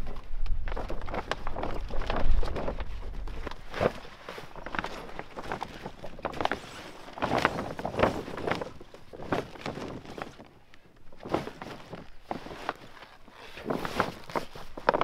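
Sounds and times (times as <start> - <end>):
plastic sheet rustling: 0.0 - 15.0.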